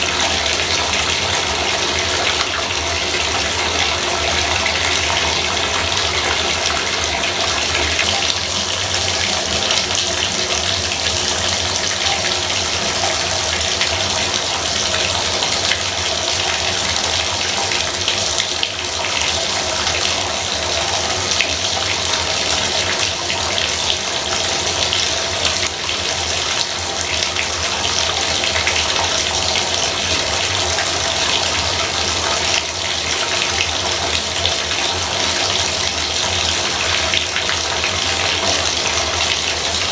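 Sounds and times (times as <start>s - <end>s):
water pouring into a bathtub: 0.0s - 39.9s.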